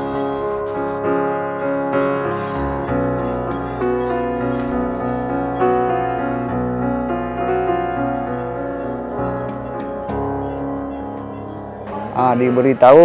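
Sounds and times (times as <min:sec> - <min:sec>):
instrumental music with held chords: 0:00.0 - 0:12.1.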